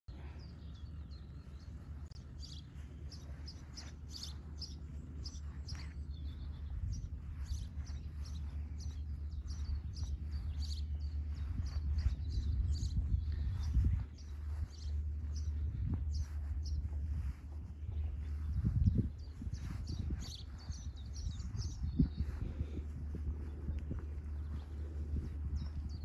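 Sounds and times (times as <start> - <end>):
birds chirping and singing: 0.1 - 26.0
low steady rumble: 0.1 - 26.0.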